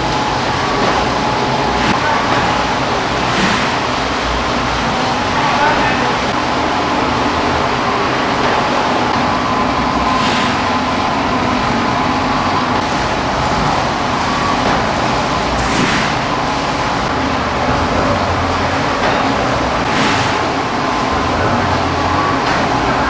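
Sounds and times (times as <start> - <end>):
veneer slicer machinery running: 0.0 - 23.0.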